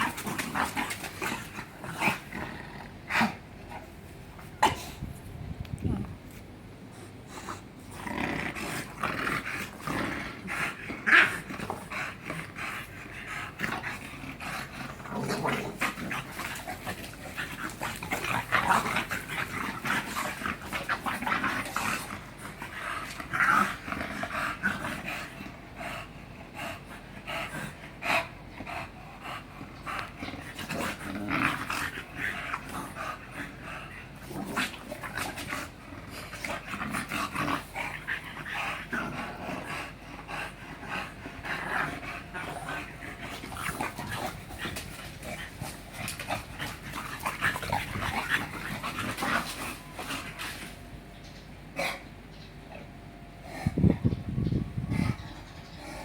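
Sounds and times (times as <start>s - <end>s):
dog growling and breathing: 0.0s - 5.2s, 6.8s - 56.0s.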